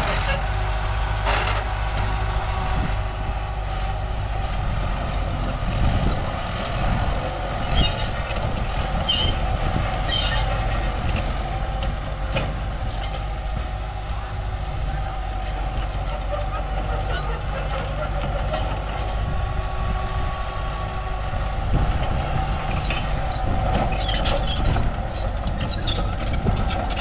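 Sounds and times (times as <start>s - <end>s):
diesel engines running: 0.0s - 27.0s.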